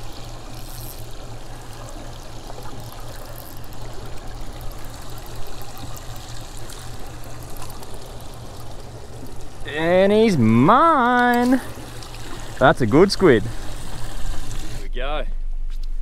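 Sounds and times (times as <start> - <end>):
water lapping against boat hull: 0.0 - 14.8
steady low hum: 0.0 - 16.0.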